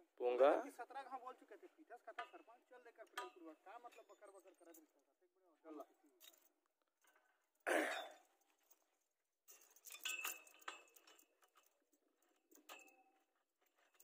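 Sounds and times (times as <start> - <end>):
light metallic clinks: 2.0 - 14.0.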